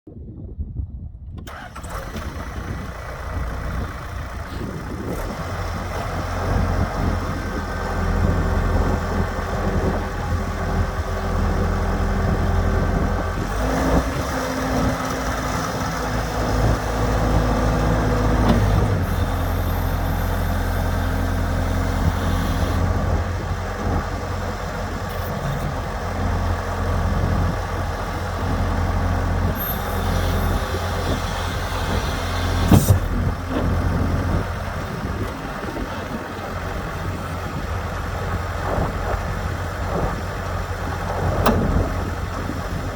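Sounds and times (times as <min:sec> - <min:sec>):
diesel engine idling: 0:01.4 - 0:42.9.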